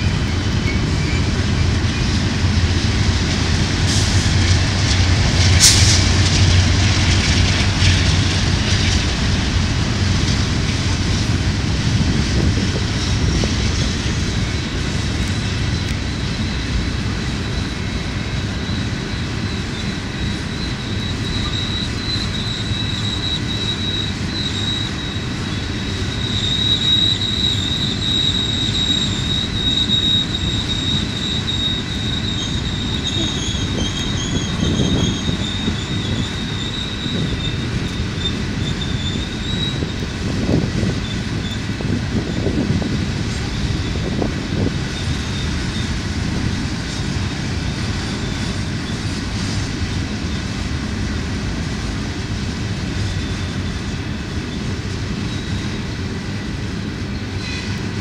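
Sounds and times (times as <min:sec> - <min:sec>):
wheel flanges squealing: 0:00.0 - 0:50.8, 0:52.6 - 0:58.0
locomotive rumble: 0:00.0 - 0:58.0
train wheels rumbling on rails: 0:00.0 - 0:58.0.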